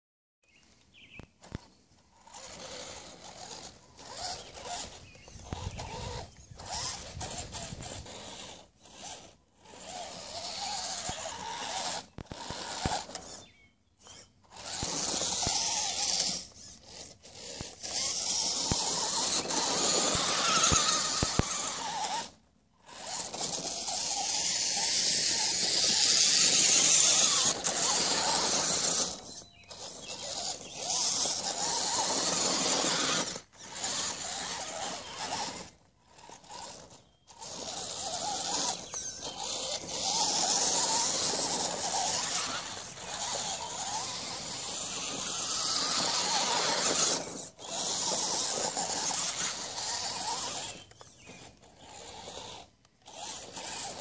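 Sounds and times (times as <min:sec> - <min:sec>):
electric motor and gears whining: 0:00.6 - 0:54.0.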